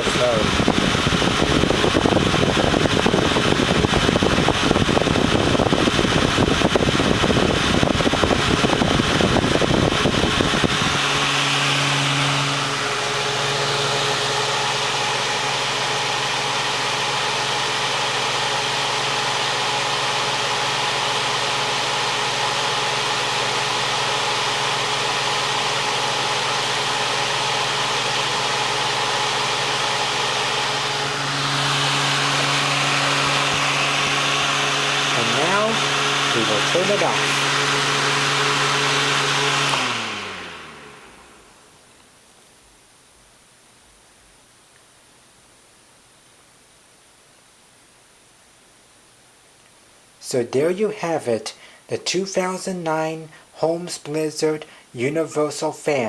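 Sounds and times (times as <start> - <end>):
electric fan whirring: 0.0 - 56.0.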